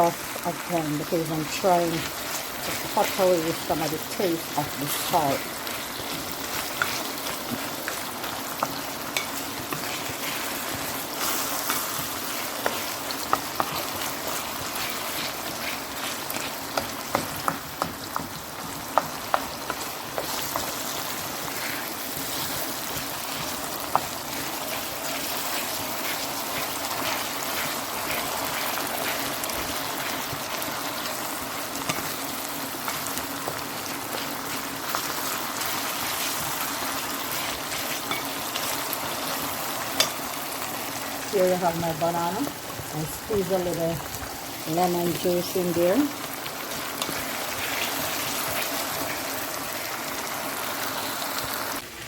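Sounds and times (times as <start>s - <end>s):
fish sizzling in a pan: 0.0s - 52.0s.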